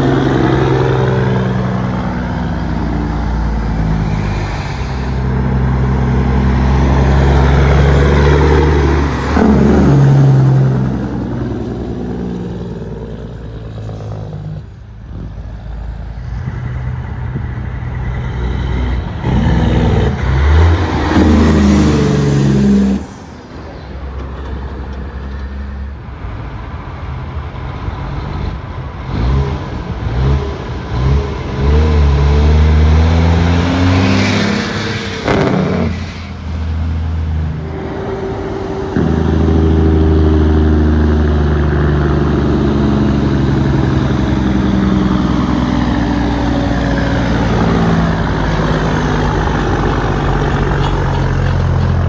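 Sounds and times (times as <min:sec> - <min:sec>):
truck diesel engines roaring: 0:00.0 - 0:52.0.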